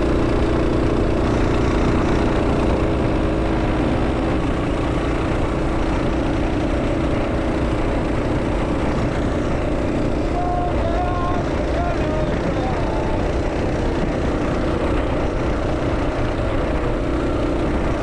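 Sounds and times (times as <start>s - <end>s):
mini bike engine running: 0.0s - 18.0s.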